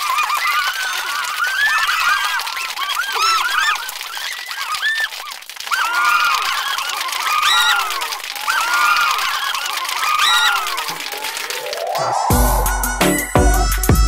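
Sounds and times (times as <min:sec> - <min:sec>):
crowd screaming and cheering: 0:00.0 - 0:14.0.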